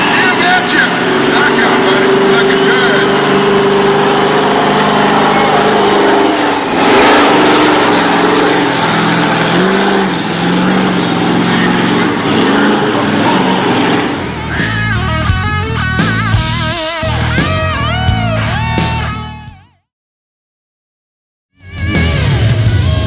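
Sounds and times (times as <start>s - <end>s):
monster truck engine revving: 0.0s - 19.6s, 21.6s - 23.0s.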